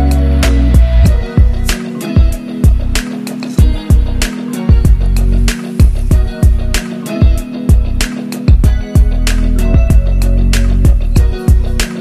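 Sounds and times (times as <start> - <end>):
bass notes: 0.0 - 3.0, 3.6 - 11.9
steady drum beat: 0.0 - 12.0.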